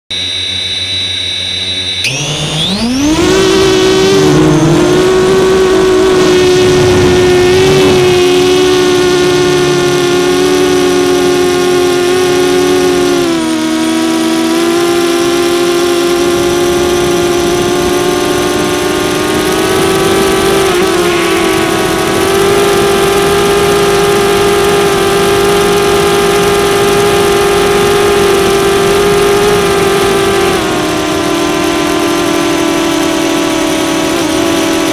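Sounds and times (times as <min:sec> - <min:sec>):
drone motors whining: 0:00.1 - 0:34.9.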